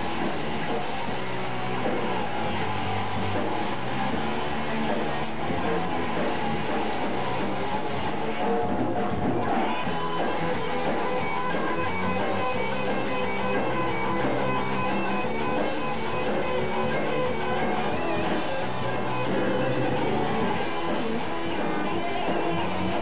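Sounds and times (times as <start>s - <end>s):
electric guitar held notes: 0.0s - 23.0s
live band playing: 0.0s - 23.0s.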